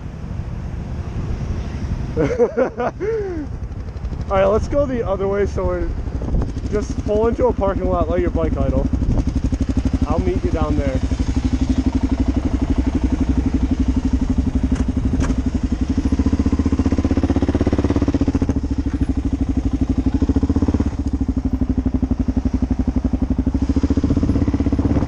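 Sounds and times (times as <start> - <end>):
motorcycle engine running: 3.0 - 25.0.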